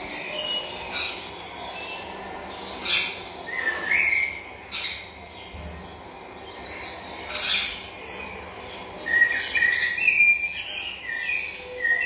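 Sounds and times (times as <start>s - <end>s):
forest birds calling: 0.0s - 12.0s.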